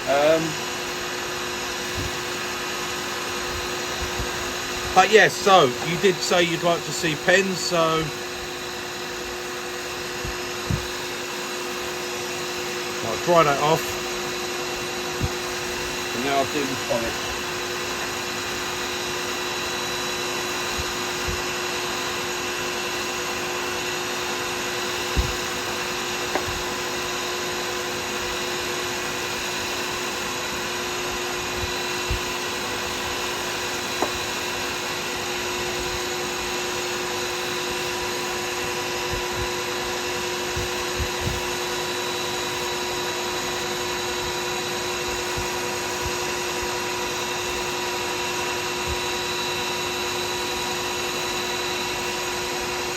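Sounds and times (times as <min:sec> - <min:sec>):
lathe motor whine: 0:00.0 - 0:52.9.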